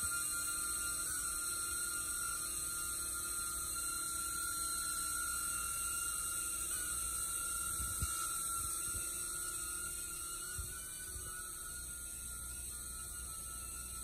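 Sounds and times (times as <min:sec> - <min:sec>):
drone hovering whine: 0:00.0 - 0:14.0.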